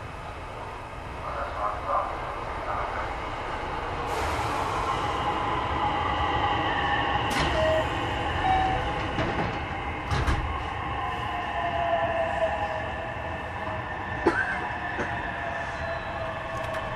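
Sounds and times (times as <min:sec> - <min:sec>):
wheel and rail rumble: 0:00.0 - 0:16.9.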